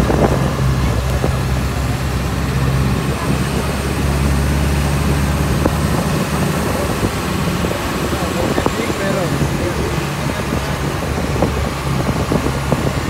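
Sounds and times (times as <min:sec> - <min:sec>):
road and wind noise: 0:00.0 - 0:13.0
vehicle engine running: 0:00.0 - 0:13.0.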